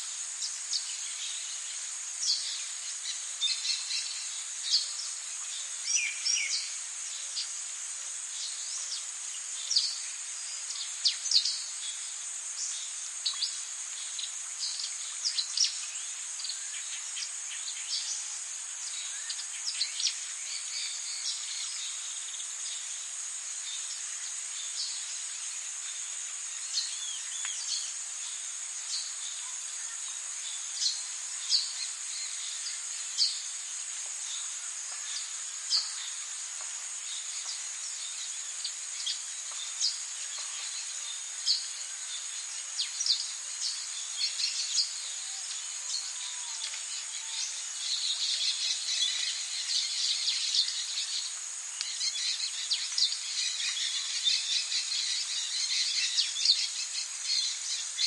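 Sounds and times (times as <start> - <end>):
insect drone: 0.0 - 58.0.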